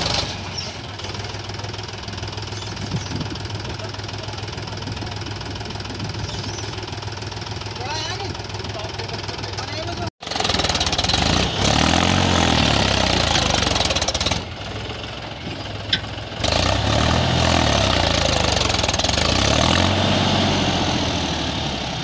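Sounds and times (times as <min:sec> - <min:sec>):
tractor diesel engine revving: 0:00.0 - 0:22.0.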